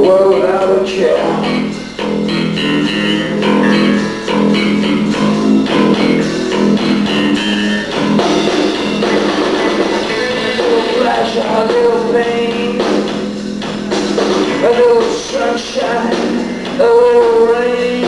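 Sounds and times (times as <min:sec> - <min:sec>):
bass: 0:00.0 - 0:18.0
drums: 0:00.0 - 0:18.0
sustained electric guitars: 0:00.0 - 0:18.0.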